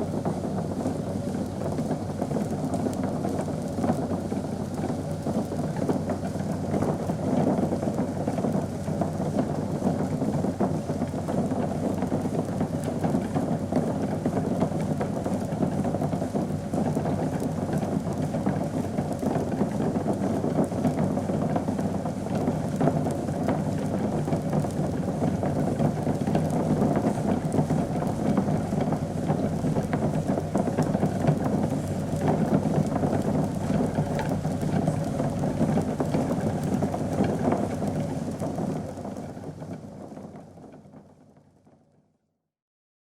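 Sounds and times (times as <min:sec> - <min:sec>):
liquid bubbling at a boil: 0:00.0 - 0:41.7.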